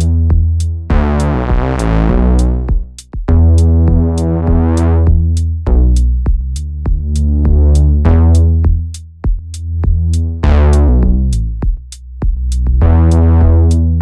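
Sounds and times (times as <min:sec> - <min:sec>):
gritty synth bass: 0:00.0 - 0:14.0
hi-hat ticks: 0:00.0 - 0:14.0
kick drum: 0:00.0 - 0:14.0.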